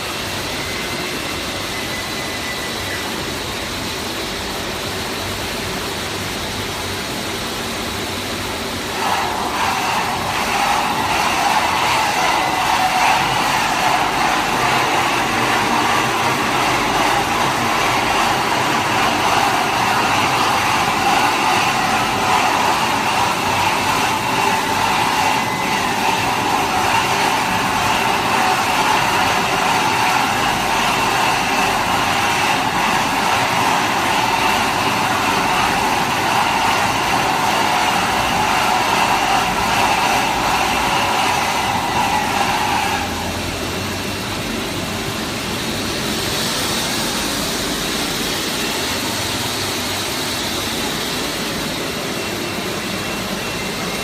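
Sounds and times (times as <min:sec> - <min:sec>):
filling machine running: 0:00.0 - 0:54.0.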